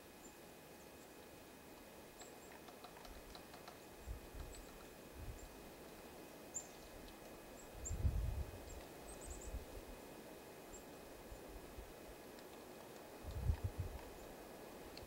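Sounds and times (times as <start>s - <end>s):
songbirds chipping: 0.0s - 9.8s, 10.6s - 15.0s.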